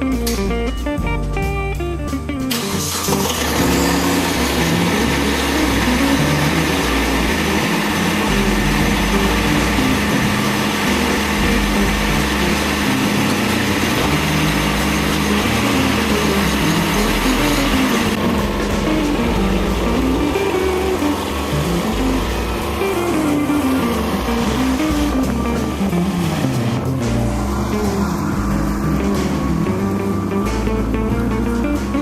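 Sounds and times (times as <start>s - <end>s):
engine running steadily: 0.0s - 32.0s.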